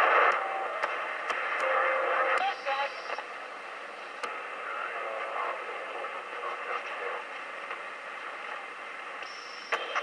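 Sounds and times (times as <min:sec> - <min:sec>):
radio receiver static hiss: 0:00.0 - 0:10.0.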